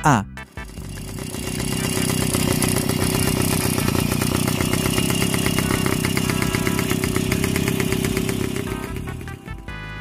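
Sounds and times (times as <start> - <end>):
motorcycle engine idling: 0.4 - 10.0.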